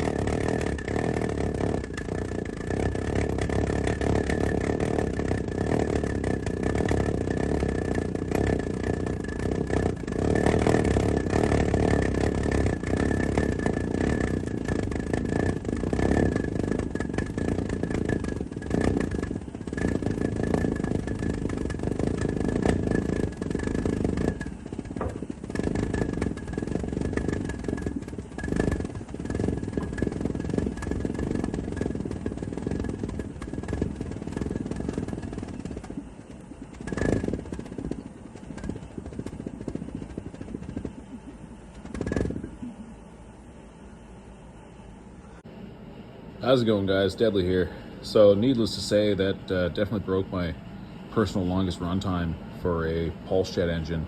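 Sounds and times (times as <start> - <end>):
pulse jet engine droning: 0.0 - 54.0.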